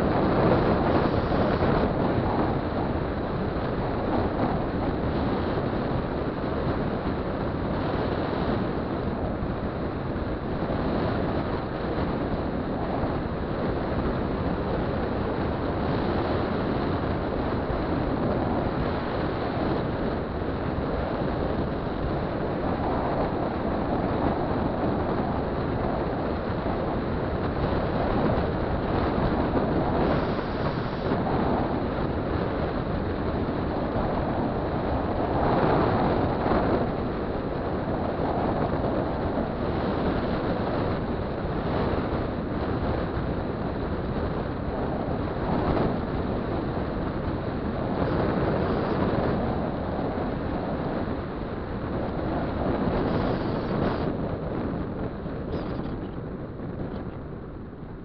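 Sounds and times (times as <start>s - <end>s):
scooter engine and road roar: 0.0s - 58.0s
wind rushing over microphone: 0.0s - 58.0s.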